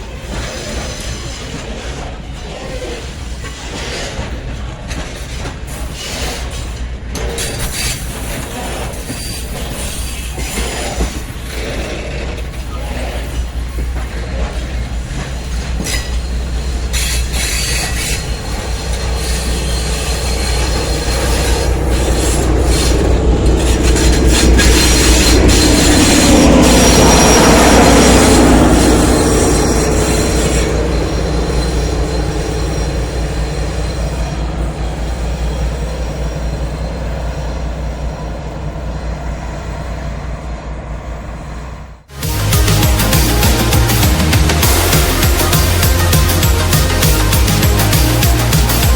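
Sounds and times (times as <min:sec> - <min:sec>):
train wheels squealing: 0:00.0 - 0:40.3
freight train rumbling past: 0:00.0 - 0:48.9.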